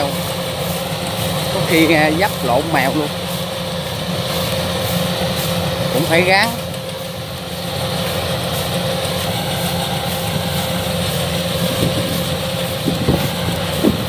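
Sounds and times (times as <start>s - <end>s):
combine harvester droning: 0.0s - 14.0s.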